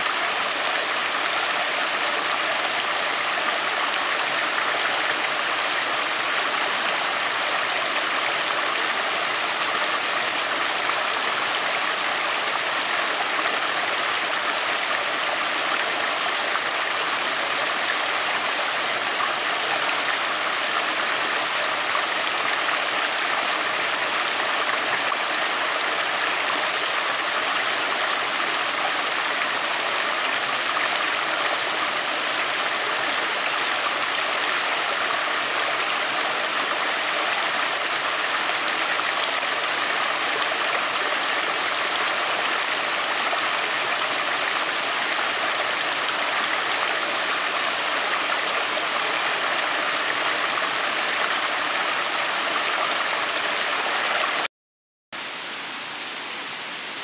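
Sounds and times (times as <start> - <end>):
stream rushing over boulders: 0.0 - 54.5, 55.2 - 57.0.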